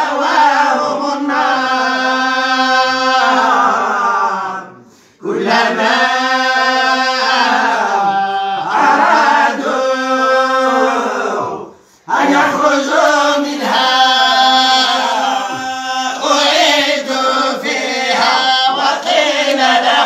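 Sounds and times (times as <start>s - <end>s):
group chanting in unison: 0.0s - 20.0s.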